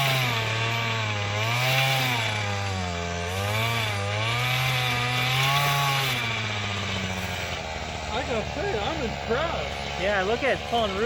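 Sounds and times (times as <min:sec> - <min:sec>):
tiller engine running hard: 0:00.0 - 0:11.0.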